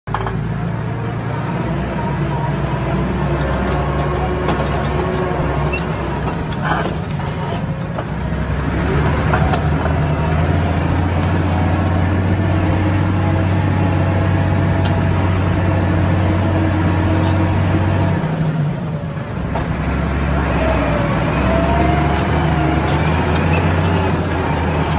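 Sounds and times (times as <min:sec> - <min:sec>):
tractor engine running: 0:00.0 - 0:24.9.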